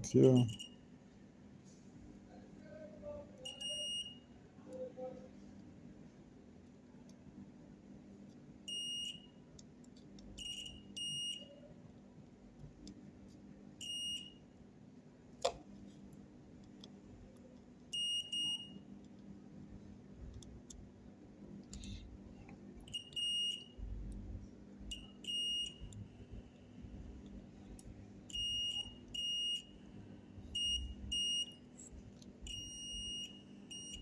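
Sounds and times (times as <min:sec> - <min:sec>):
faint steady low hum: 0:00.0 - 0:34.0.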